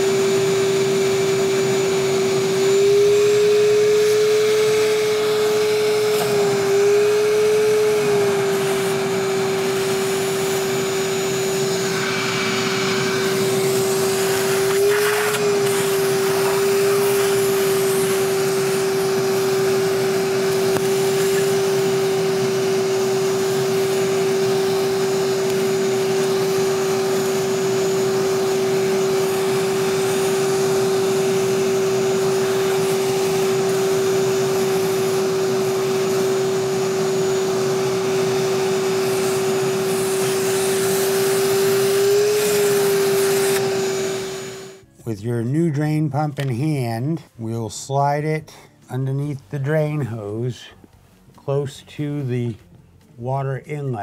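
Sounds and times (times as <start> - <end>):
shop vac motor whine: 0.0 - 45.0.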